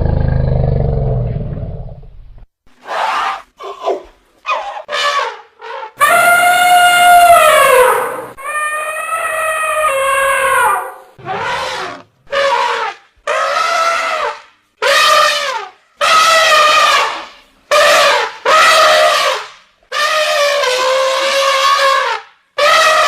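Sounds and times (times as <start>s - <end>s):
elephant trumpeting: 2.8s - 23.0s.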